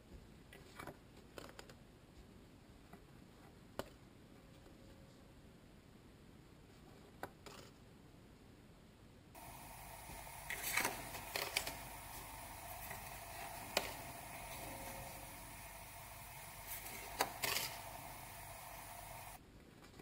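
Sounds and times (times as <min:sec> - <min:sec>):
steady low hiss: 0:00.0 - 0:19.8.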